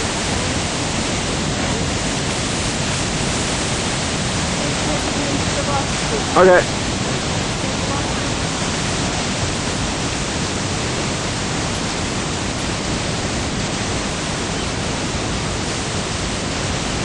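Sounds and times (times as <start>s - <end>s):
fast-flowing river rushing: 0.0s - 17.0s.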